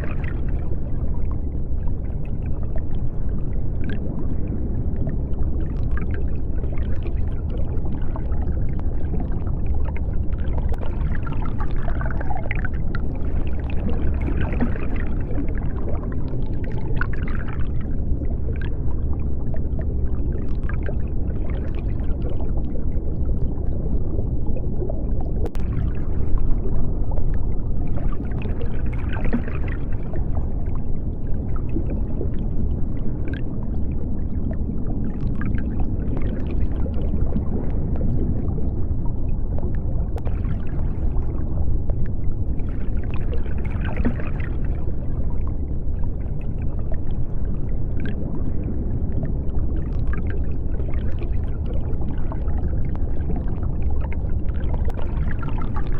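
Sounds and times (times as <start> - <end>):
deep underwater rumble: 0.0 - 55.9
water bubbling and gurgling: 0.0 - 55.9.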